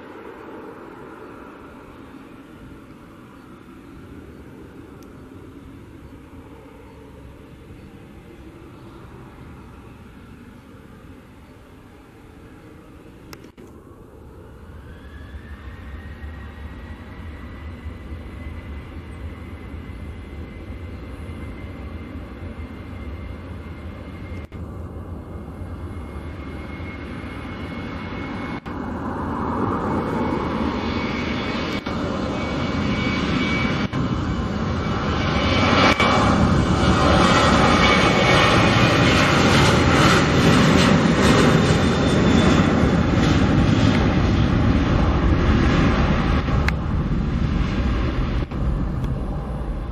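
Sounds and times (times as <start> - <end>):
jet engines on takeoff: 0.0 - 49.9.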